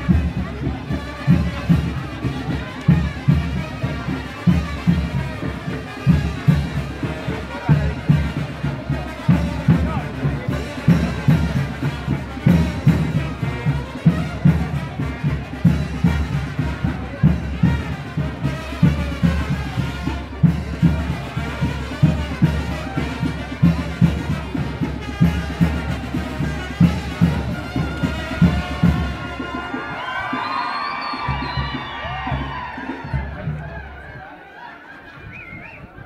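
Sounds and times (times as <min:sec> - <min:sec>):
bass drum beat: 0:00.0 - 0:33.9
brass band playing: 0:00.0 - 0:34.5.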